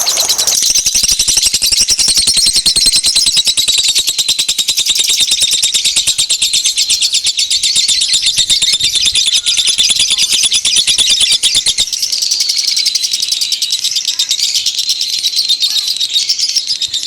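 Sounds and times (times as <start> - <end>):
songbirds chattering and trilling: 0.0 - 17.0.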